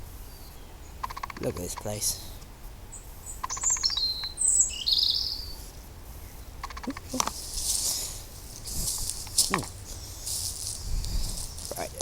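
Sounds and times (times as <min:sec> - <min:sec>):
songbird chirps and trills: 0:00.0 - 0:12.0.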